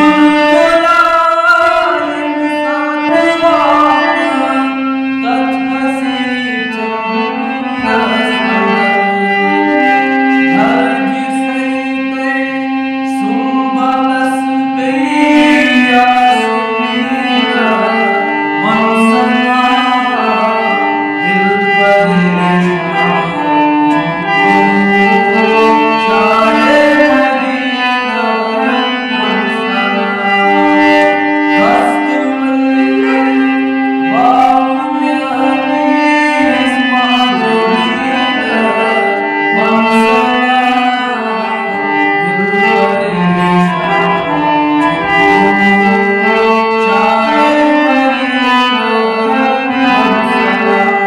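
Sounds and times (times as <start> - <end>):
man singing: 0.0 - 51.0.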